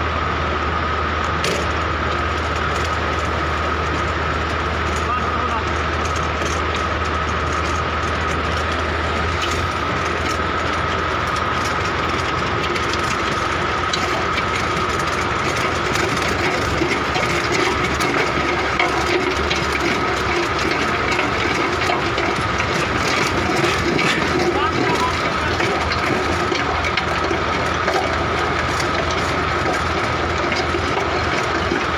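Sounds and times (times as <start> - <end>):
steady whine: 0.0 - 31.9
tractor engine running under load: 0.0 - 31.9
auger grinding into stony soil: 1.4 - 31.9.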